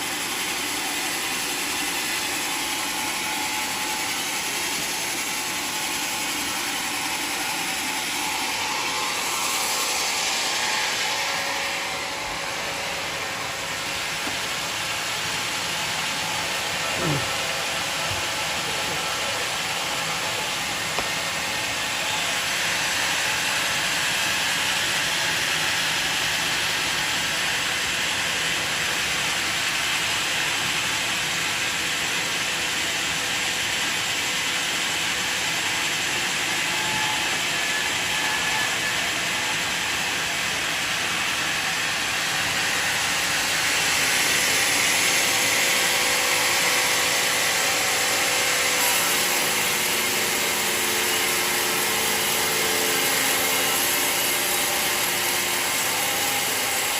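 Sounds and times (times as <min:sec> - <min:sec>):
sawmill cutting log: 0:00.0 - 0:56.9.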